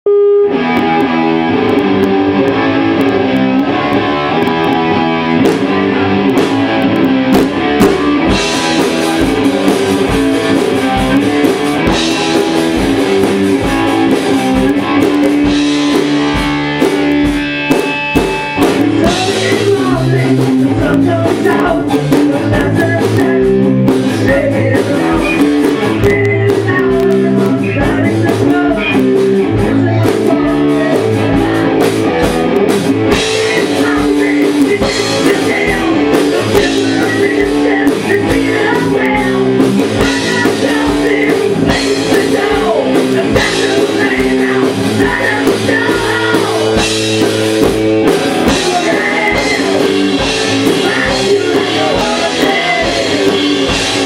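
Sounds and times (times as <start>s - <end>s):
drum kit beat: 0.1s - 54.0s
electric guitar: 0.1s - 54.0s.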